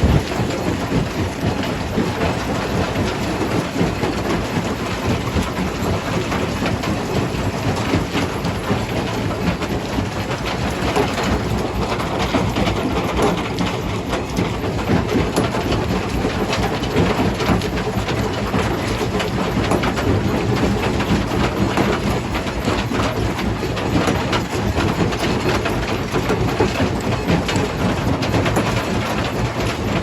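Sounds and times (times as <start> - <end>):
heavy machine rumble: 0.0 - 30.0.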